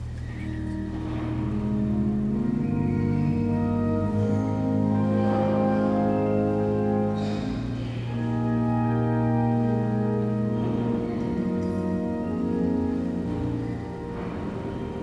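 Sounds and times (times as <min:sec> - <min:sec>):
organ playing slow chords: 0:00.0 - 0:15.0.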